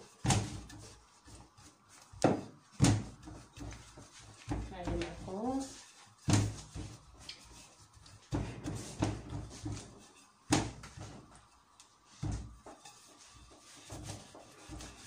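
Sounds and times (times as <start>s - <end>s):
rolling pin rolling dough: 0.0s - 15.0s.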